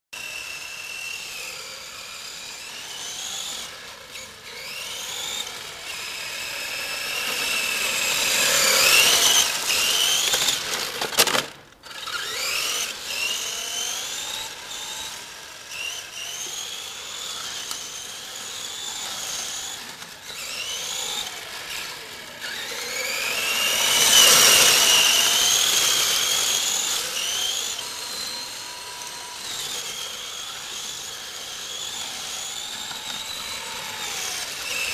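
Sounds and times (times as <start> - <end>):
rc car electric motor whining: 0.2 - 34.9.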